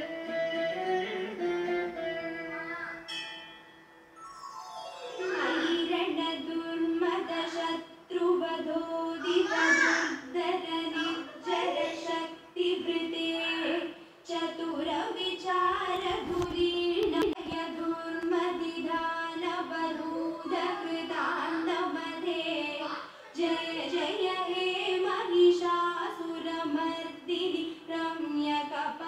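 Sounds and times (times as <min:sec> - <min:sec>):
woman singing: 0:05.4 - 0:29.0.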